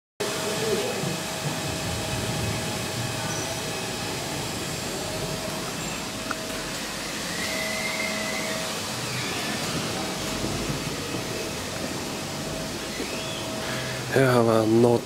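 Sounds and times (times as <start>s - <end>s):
rushing machine hum: 0.2s - 15.0s.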